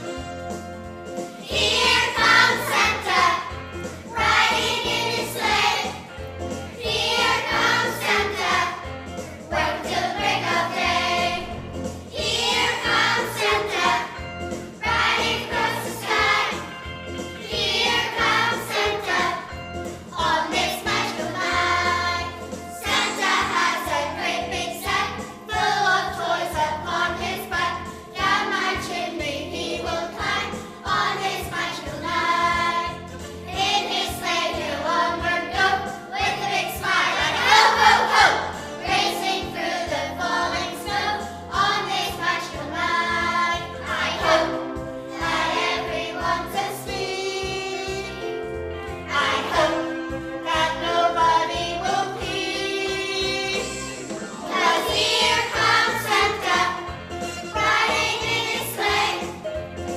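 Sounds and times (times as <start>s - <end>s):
instrumental accompaniment: 0.0s - 59.9s
children's choir singing: 1.3s - 6.1s, 6.7s - 16.8s, 17.4s - 48.4s, 49.0s - 59.6s.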